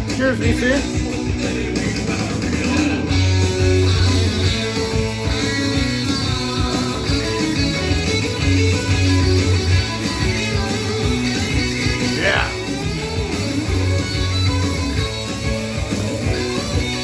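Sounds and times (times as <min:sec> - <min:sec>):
hard rock music from a record: 0:00.0 - 0:17.0.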